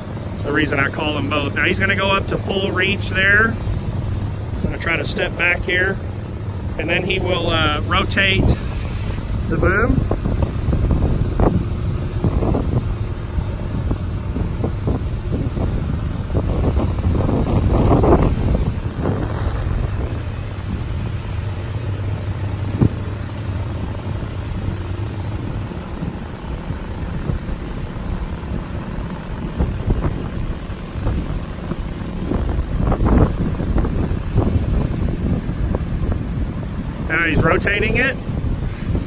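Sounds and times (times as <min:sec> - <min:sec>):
truck engine under hydraulic load: 0:00.0 - 0:37.1, 0:38.2 - 0:39.0
wind buffeting microphone: 0:00.0 - 0:39.0.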